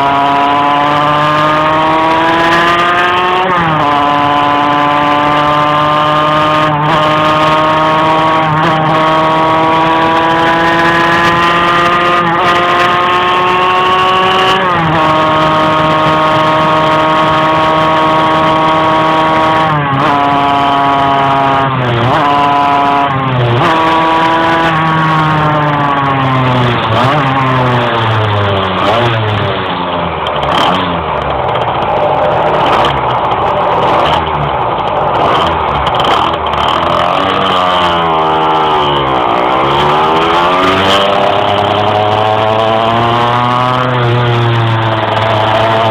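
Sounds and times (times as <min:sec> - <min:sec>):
two-stroke moped engine: 0:00.0 - 0:45.9.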